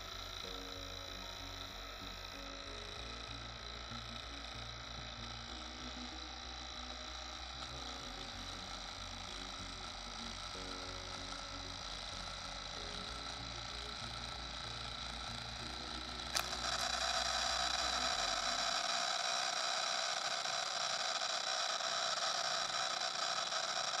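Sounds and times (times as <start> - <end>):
motor spinning plastic propeller: 0.0 - 24.0.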